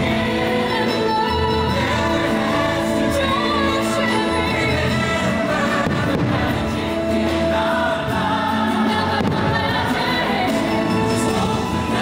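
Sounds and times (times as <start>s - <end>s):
choir singing: 0.0s - 12.0s
holiday music: 0.0s - 12.0s.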